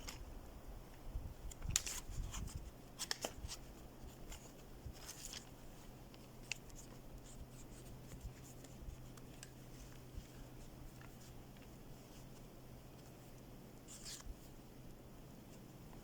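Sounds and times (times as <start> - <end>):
faint low hum: 0.0 - 16.0
hands rustling and handling gear: 1.5 - 16.0.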